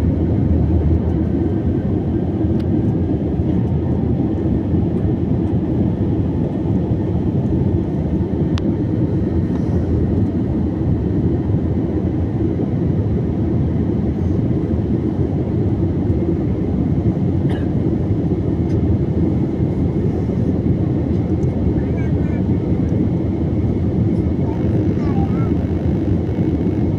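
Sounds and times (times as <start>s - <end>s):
airplane engine rumble: 0.0s - 26.9s.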